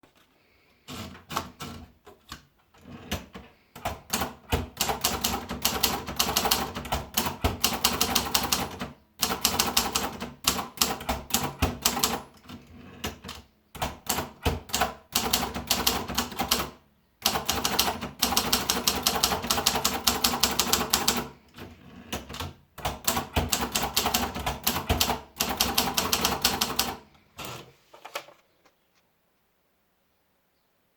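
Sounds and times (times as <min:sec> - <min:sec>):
typewriter keys clacking: 0:00.9 - 0:28.3.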